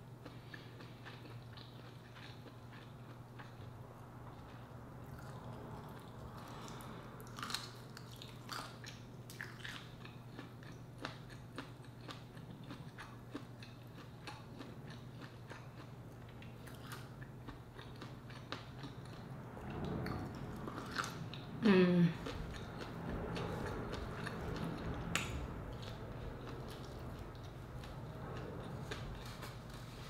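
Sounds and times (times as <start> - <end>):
person chewing shrimp: 0.0 - 21.6, 22.2 - 29.9
faint low hum: 0.0 - 30.0.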